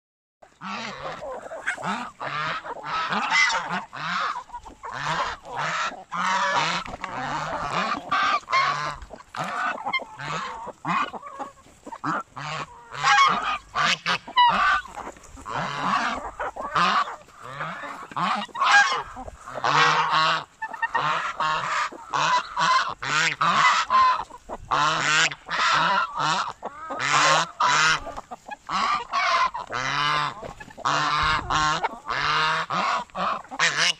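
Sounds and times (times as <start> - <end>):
geese honking: 0.4 - 33.9.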